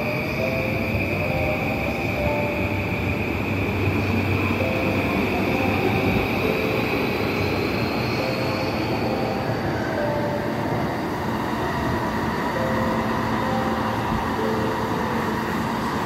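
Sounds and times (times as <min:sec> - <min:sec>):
soft electronic chime notes: 0:00.0 - 0:16.0
train wheels on rails: 0:00.0 - 0:16.0.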